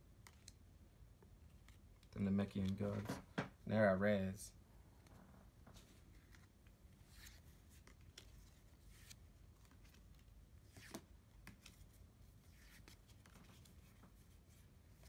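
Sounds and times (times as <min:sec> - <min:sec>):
cards being flipped and rustling: 0:00.2 - 0:00.6, 0:01.3 - 0:03.6, 0:05.0 - 0:15.0.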